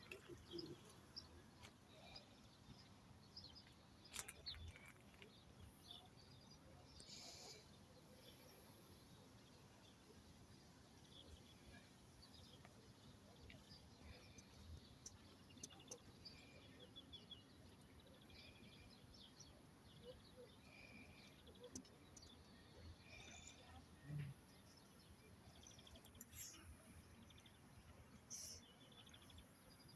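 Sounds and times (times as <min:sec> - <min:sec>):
faint birdsong chirps and trills: 0:00.0 - 0:29.9.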